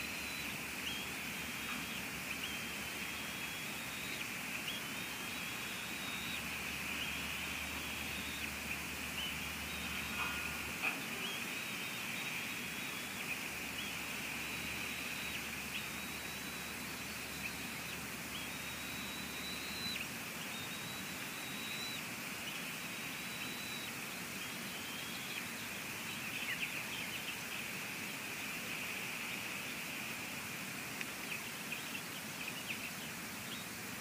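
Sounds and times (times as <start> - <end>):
soft chirps and clicks: 0.0 - 29.8, 30.9 - 33.7
rain hissing: 0.0 - 32.4
faint high whine: 0.0 - 34.0.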